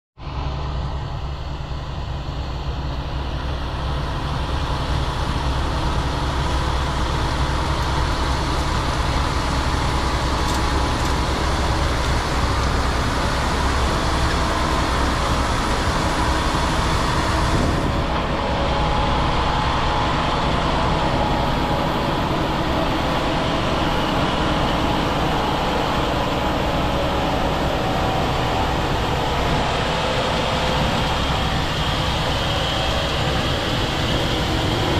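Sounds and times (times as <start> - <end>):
tractor engine hum: 0.2 - 34.9.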